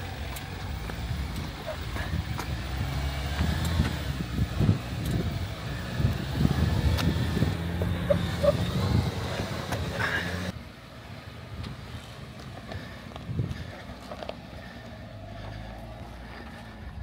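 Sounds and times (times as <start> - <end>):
vehicle engine over rough ground: 0.0 - 17.0.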